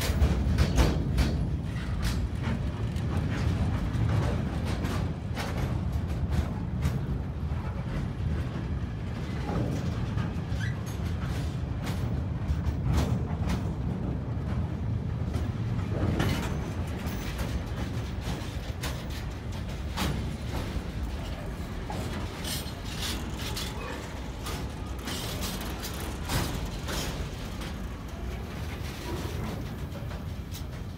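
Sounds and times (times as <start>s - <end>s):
train wheels rumbling on rails: 0.0s - 30.9s
wagons knocking and clattering: 0.0s - 30.9s.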